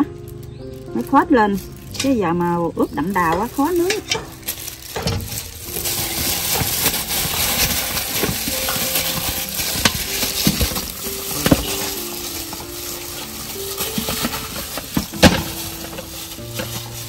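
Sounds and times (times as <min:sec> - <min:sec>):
hands squishing wet marinade: 0:00.0 - 0:17.0.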